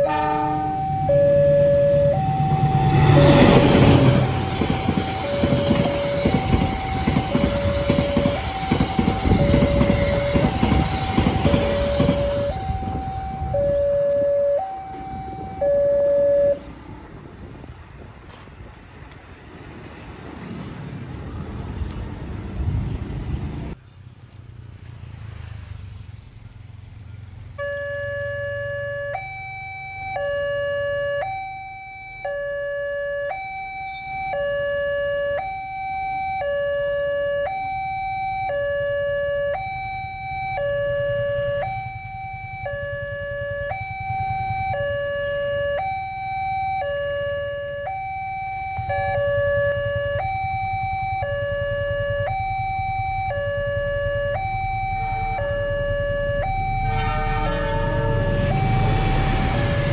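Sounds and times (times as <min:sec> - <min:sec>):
level crossing alarm two-tone: 0:00.0 - 0:16.7, 0:27.6 - 0:59.9
motorbike traffic: 0:00.0 - 0:59.9.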